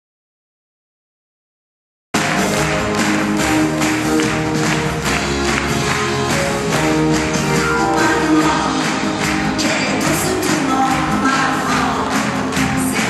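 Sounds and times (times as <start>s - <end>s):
live pop band playing: 2.2s - 13.0s.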